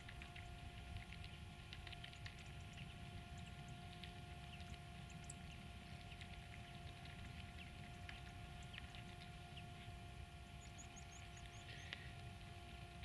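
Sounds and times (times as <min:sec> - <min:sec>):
faint ticks: 0:00.0 - 0:09.6, 0:10.6 - 0:13.0
small chirps: 0:00.0 - 0:12.4
faint steady hum: 0:00.0 - 0:13.0.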